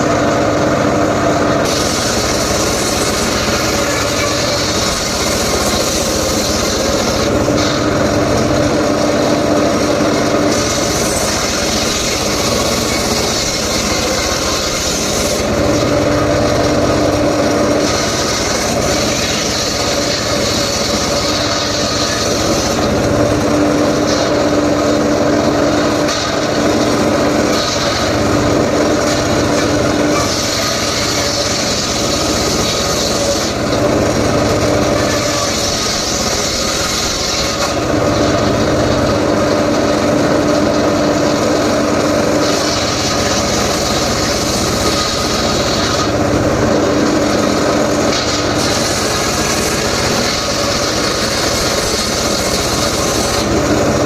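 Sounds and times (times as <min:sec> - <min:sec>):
power saw cutting wood: 0:00.0 - 0:54.0.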